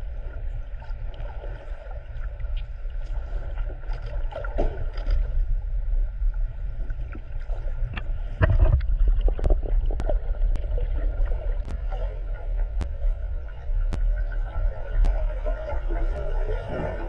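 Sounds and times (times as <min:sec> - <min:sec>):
low underwater rumble: 0:00.0 - 0:17.0.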